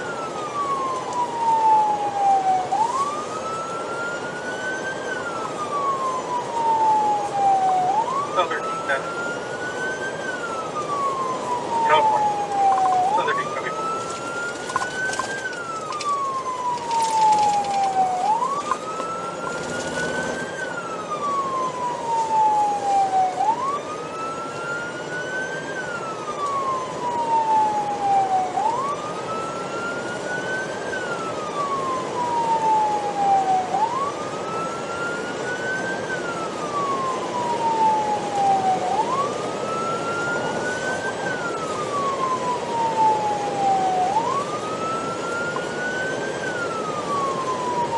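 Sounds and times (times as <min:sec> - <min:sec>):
police siren wailing: 0:00.0 - 0:47.9
road and engine noise: 0:00.0 - 0:47.9.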